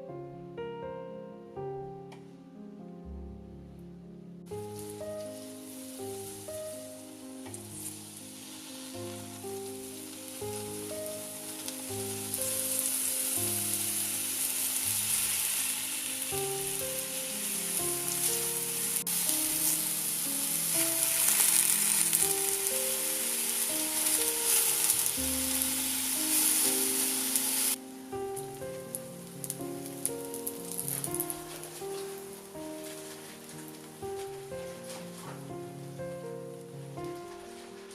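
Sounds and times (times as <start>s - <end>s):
soft background music: 0.0s - 37.9s
food sizzling in a frying pan: 4.5s - 35.0s.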